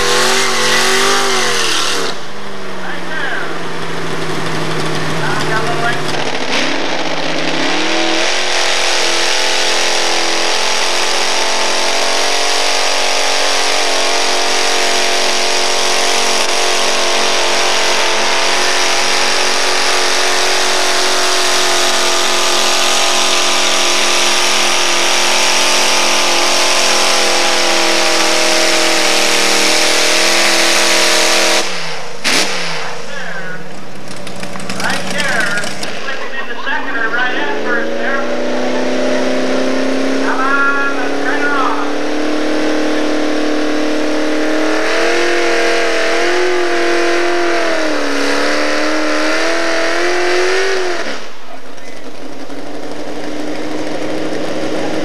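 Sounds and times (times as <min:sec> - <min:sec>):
truck engine at high revs: 0:00.0 - 0:55.0.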